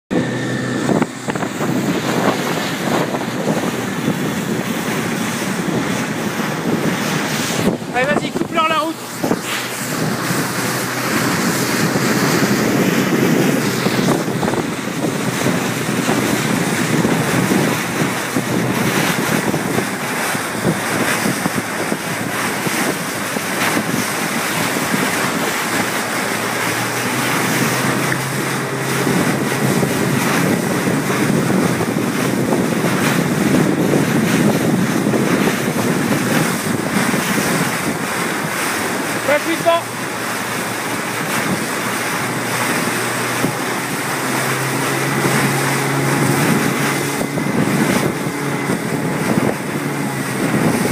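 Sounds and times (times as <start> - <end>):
water rushing past boat: 0.0 - 50.9
wind buffeting microphone: 0.1 - 50.9.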